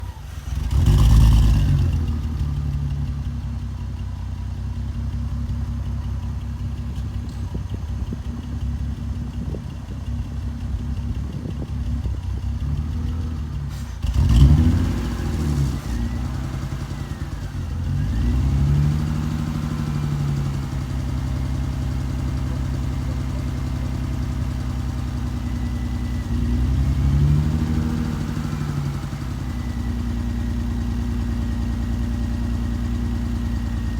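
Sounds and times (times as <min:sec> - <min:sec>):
car exhaust idling and revving: 0:00.5 - 0:33.9.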